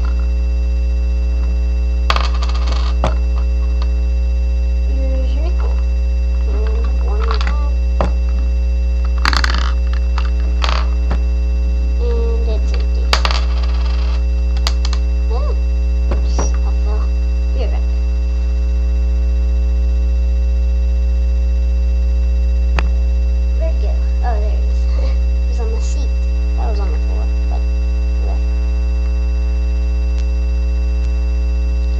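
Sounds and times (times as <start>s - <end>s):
electrical mains hum: 0.0s - 31.9s.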